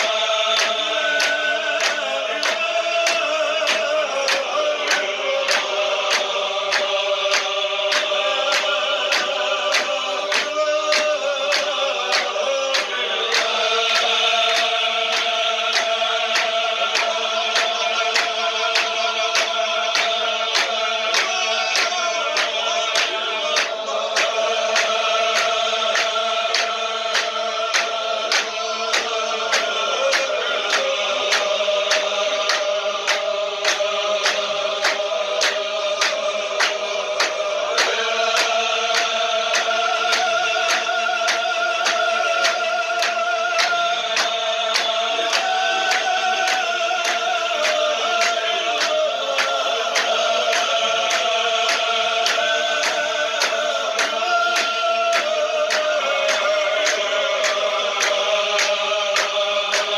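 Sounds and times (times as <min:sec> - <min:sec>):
hand clapping: 0:00.0 - 0:59.9
men chanting in unison: 0:00.0 - 0:59.9.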